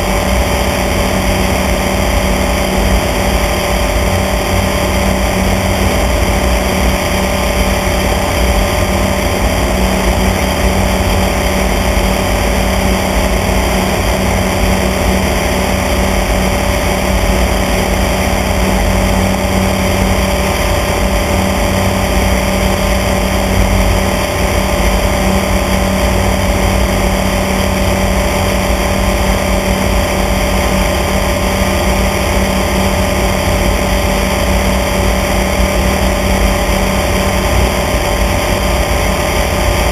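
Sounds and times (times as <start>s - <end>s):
small airplane engine droning: 0.0s - 39.9s.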